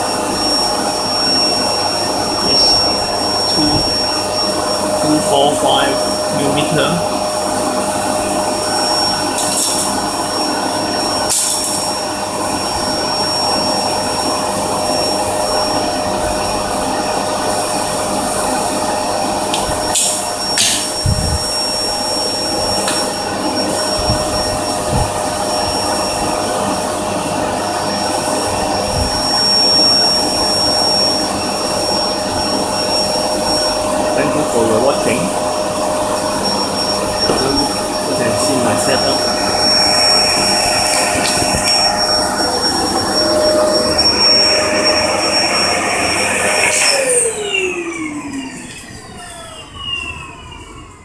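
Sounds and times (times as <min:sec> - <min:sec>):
vacuum cleaner whining: 0:00.0 - 0:51.0.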